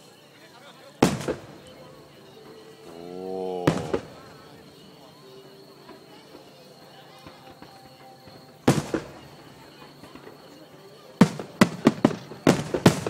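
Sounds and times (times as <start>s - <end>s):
fireworks shells bursting: 1.0s - 6.6s, 7.2s - 10.6s, 11.2s - 13.0s.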